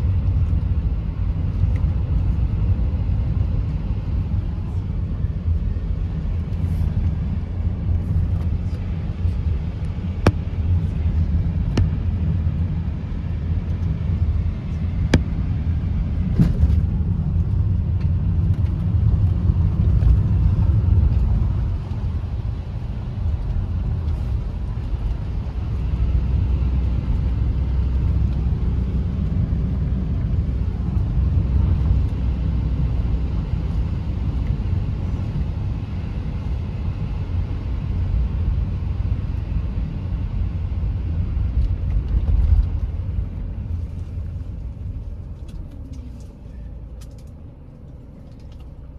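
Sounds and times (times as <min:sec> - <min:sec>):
car engine rumbling: 0:00.0 - 0:48.9.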